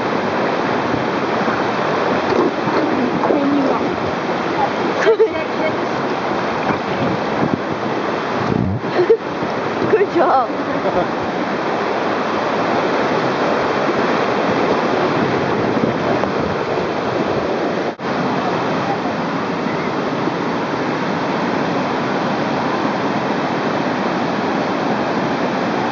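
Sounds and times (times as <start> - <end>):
river rapids roaring: 0.0 - 25.9.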